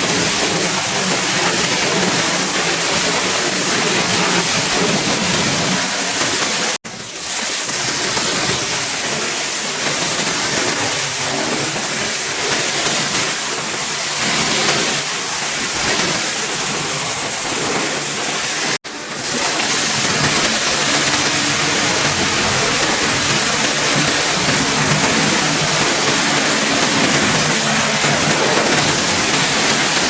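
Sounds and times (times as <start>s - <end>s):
pressure washer spraying water: 0.0s - 30.0s.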